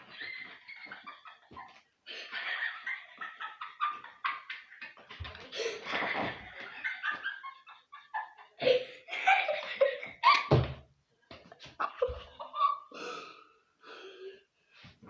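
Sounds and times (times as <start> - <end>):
people laughing: 0.0 - 10.6, 11.4 - 13.0.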